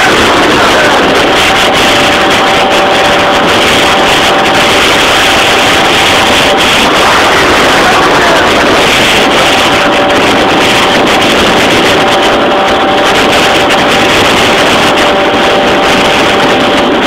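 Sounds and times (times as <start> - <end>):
two-stroke scooter engine running hard: 0.0 - 17.0.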